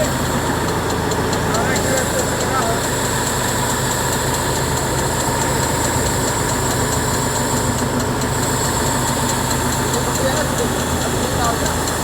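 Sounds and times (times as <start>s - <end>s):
fast machinery ticking: 0.0s - 12.0s
steady machine whine: 0.0s - 12.0s
tractor engine drone: 0.0s - 12.0s.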